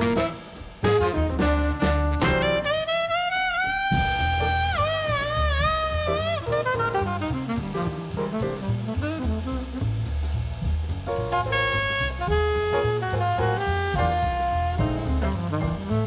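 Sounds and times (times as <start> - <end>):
saxophone melody: 0.0 - 8.4, 11.4 - 16.0
drum kit: 0.0 - 16.0
walking bass: 0.0 - 16.0.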